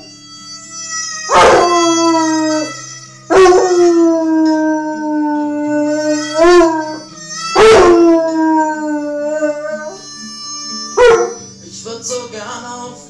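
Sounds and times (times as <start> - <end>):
music: 0.0 - 13.0
dog howling: 0.8 - 11.5.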